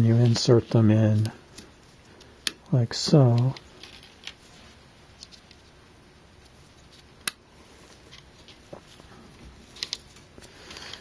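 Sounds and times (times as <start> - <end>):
handling small parts: 0.1 - 5.8, 6.4 - 11.0.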